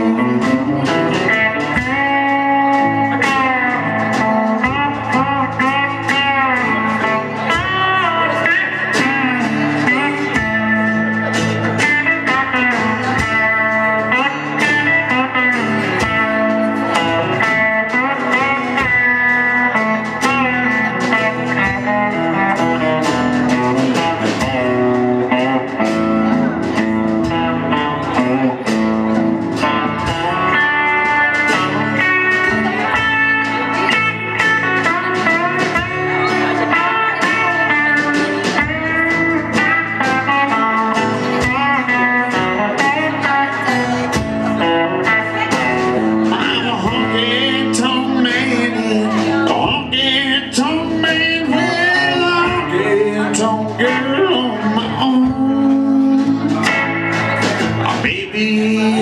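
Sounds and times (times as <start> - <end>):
bass: 0.0 - 59.0
lead guitar solo: 0.0 - 59.0
steady drum beat: 0.0 - 59.0.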